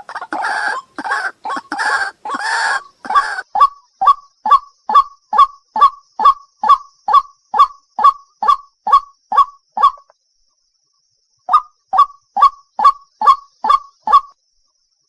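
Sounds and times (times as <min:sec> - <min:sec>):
bird harsh calls: 0:00.0 - 0:10.1, 0:11.5 - 0:14.3.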